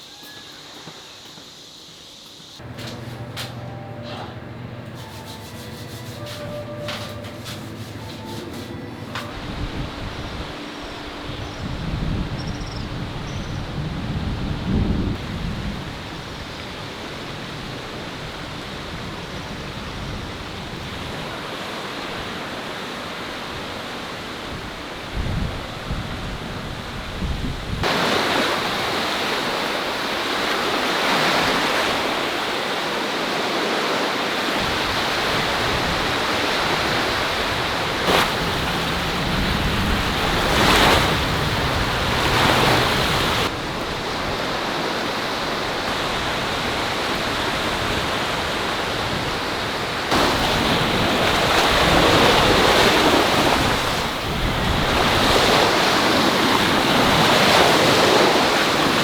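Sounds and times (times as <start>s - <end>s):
sea waves breaking: 2.6s - 59.0s
wind rumbling on microphone: 9.2s - 32.3s, 34.5s - 59.0s.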